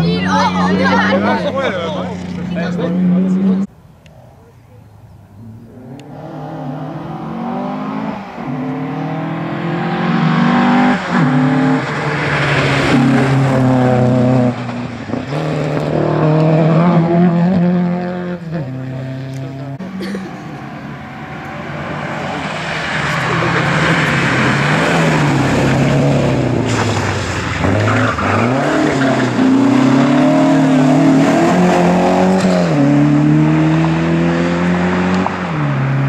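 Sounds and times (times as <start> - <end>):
rally car engine accelerating: 5.4 - 36.0.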